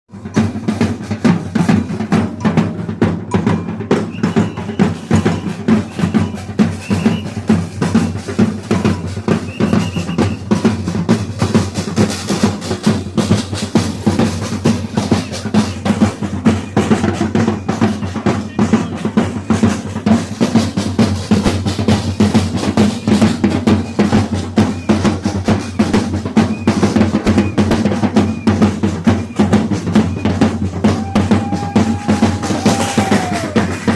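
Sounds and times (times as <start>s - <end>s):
bass and snare drums playing: 0.1s - 33.9s.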